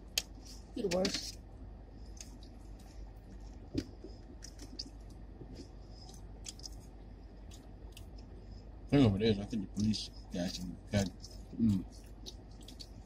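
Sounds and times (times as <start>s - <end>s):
chewing fried chicken: 0.0s - 8.7s, 9.7s - 13.0s.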